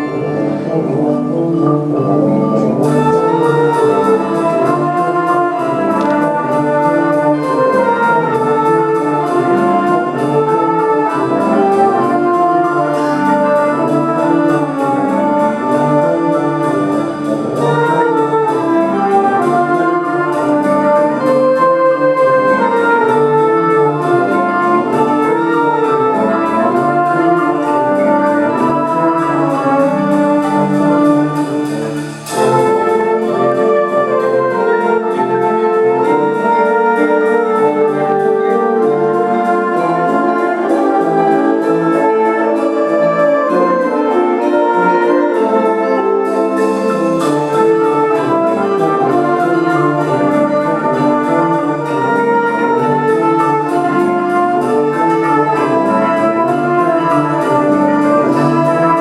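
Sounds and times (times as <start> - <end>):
wind band brass chords: 0.0 - 59.0.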